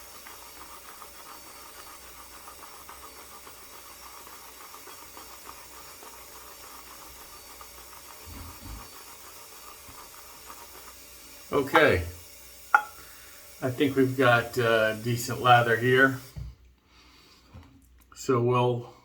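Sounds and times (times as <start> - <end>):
shaving brush swishing lather: 0.0 - 16.4.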